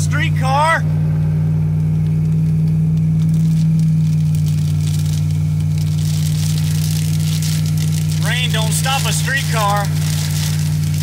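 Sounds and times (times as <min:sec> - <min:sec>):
car exhaust drone: 0:00.0 - 0:11.0
wet tyres on road: 0:00.0 - 0:11.0.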